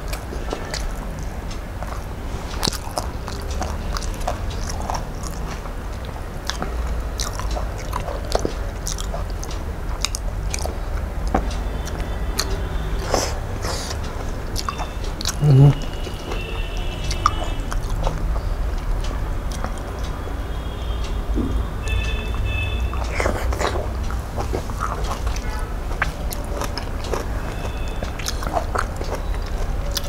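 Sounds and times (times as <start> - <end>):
man chewing and mouth sounds: 0.0 - 30.0.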